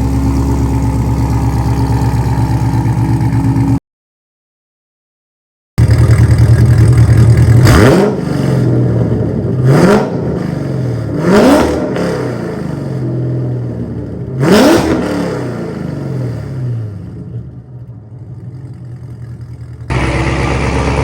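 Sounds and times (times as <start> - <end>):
car engine idling and revving: 0.0 - 3.8, 5.8 - 21.0.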